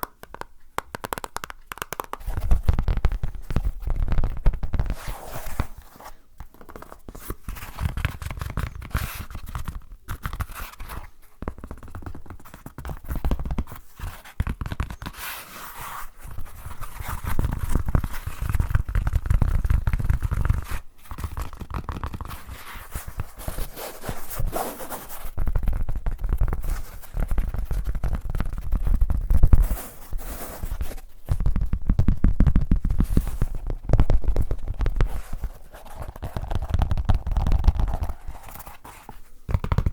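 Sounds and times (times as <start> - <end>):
scratching against microphone: 2.1 - 39.9.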